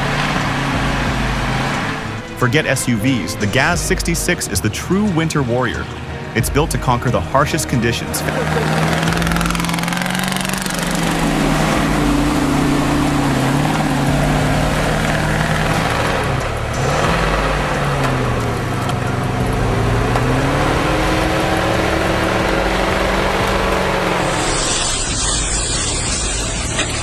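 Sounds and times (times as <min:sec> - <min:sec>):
heavy truck engine revving: 0:00.0 - 0:27.0.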